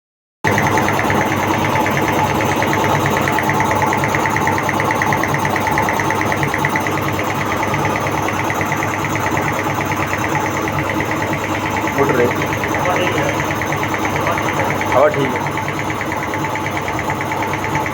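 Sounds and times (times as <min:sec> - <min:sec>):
air compressor pulsing chatter: 0:00.5 - 0:17.9.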